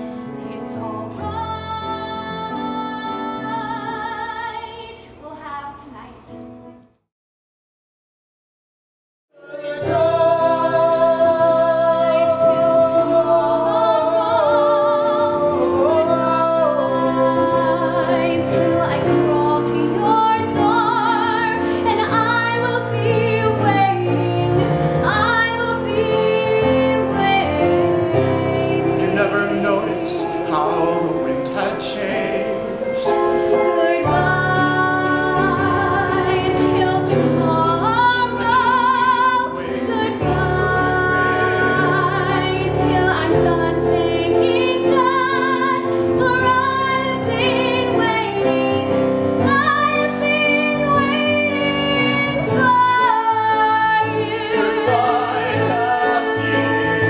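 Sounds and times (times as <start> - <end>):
woman singing with vibrato: 0.5 - 6.3, 9.6 - 31.0, 33.0 - 57.0
instrumental accompaniment: 9.4 - 57.0.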